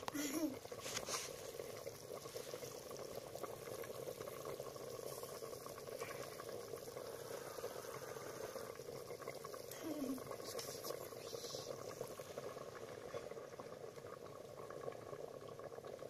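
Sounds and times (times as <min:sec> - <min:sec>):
potatoes frying in hot oil: 0:00.0 - 0:16.0.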